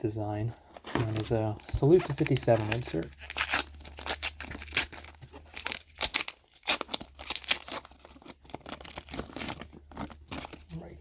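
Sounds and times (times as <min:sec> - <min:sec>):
wrapper tearing and crinkling: 0:00.9 - 0:11.0.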